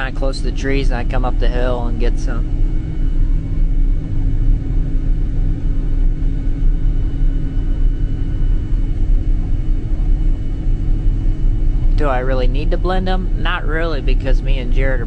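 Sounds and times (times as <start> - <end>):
faint steady machine whine: 0.0 - 15.0.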